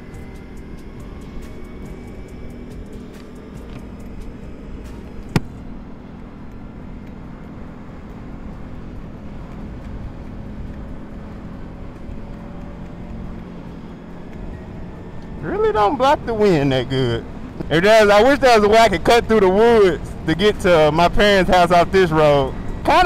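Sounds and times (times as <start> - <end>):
engine running while riding: 0.0 - 23.0.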